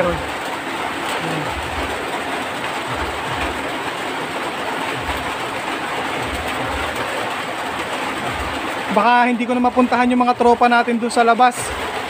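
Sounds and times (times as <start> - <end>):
heavy rain on metal sheeting: 0.0 - 12.0.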